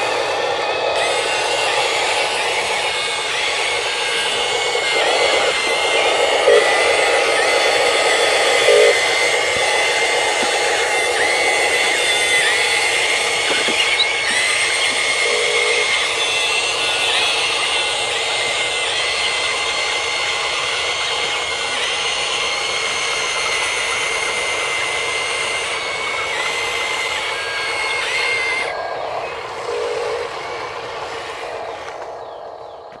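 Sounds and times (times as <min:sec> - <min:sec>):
mechanical hiss: 0:00.0 - 0:32.2
electric motors whining: 0:00.0 - 0:33.0.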